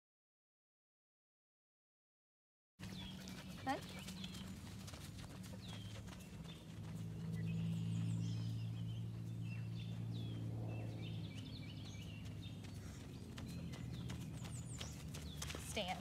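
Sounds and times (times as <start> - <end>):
steady low hum: 2.8 - 15.9
songbirds chirping: 2.8 - 16.0.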